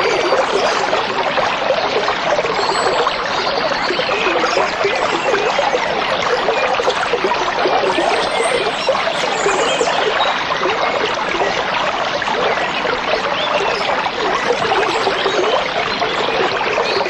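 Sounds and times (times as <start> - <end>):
stream babbling: 0.0 - 17.0.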